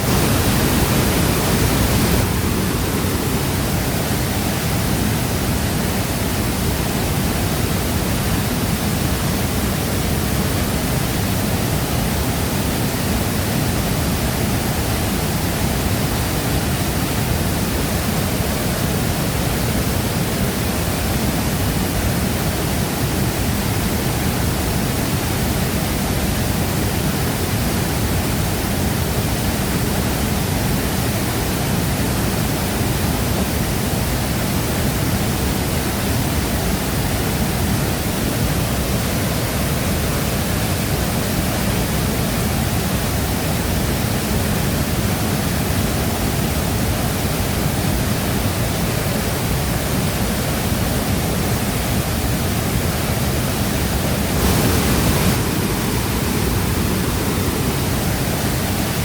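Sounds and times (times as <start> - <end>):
waterfall crashing into pool: 0.0 - 59.0.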